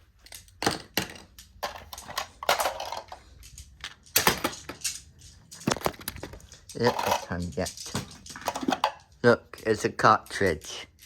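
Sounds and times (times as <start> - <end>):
clicks taps and rustles: 0.2 - 11.0.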